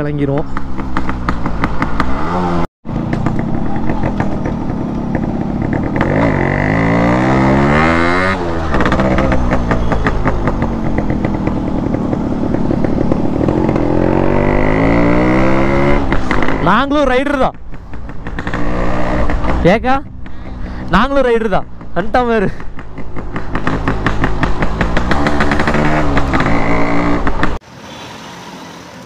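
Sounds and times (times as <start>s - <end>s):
two-stroke engine revving: 0.4s - 27.6s.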